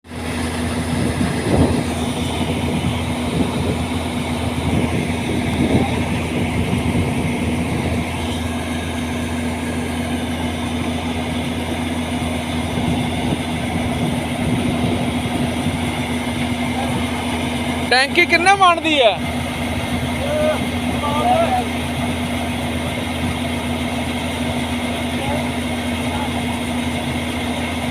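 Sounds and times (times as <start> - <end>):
combine harvester drone: 0.0 - 27.9.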